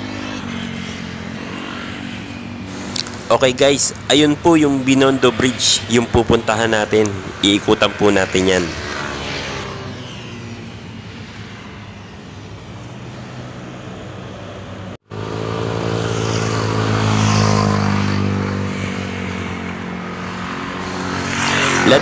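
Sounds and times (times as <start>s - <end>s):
hum of passing vehicles: 0.0s - 22.0s
vehicle engine passing close: 0.0s - 22.0s.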